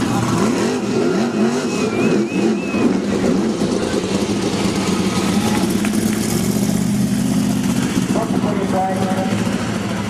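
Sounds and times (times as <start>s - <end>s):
race car engines running: 0.0s - 10.0s.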